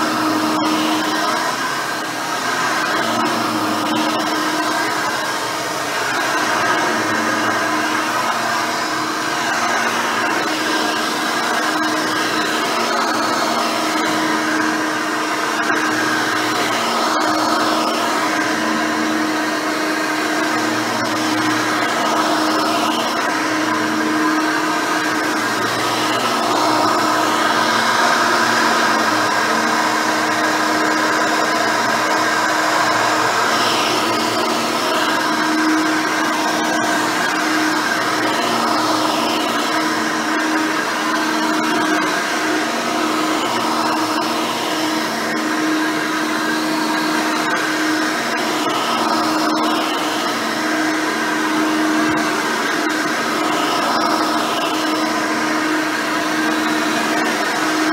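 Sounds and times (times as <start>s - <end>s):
vacuum cleaner running: 0.0s - 57.9s
vacuum rumble on carpet: 0.0s - 57.9s.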